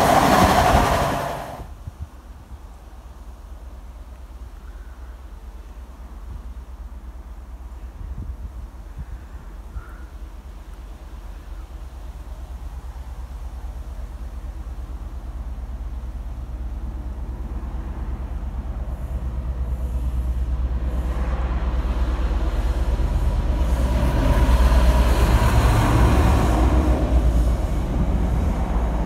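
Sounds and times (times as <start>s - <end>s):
rail and wheel noise: 0.0s - 29.0s
train rumbling: 0.0s - 29.0s.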